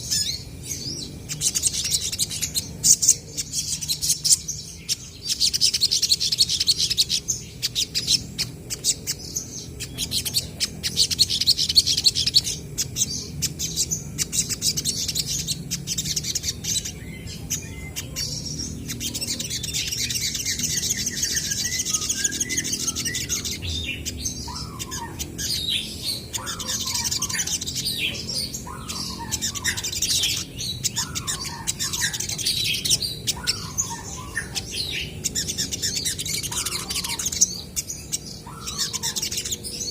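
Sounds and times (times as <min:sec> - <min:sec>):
sunbirds chirping and trilling: 0:00.0 - 0:39.9.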